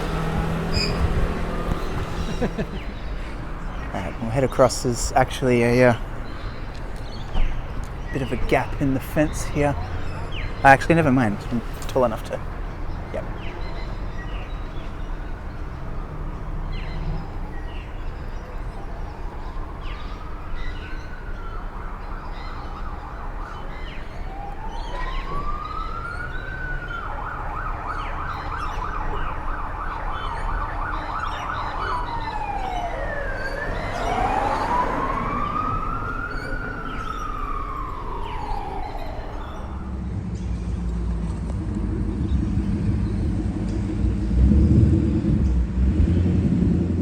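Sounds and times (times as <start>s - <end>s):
emergency siren wailing and yelping: 0.0s - 40.0s
low traffic rumble: 0.0s - 47.0s.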